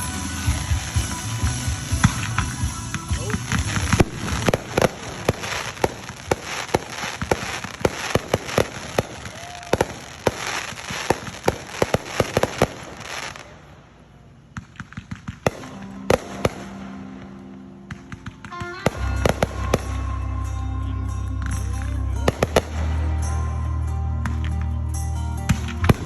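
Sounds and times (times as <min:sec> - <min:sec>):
fireworks popping and banging: 0:00.0 - 0:20.2, 0:21.4 - 0:23.5, 0:25.5 - 0:26.0.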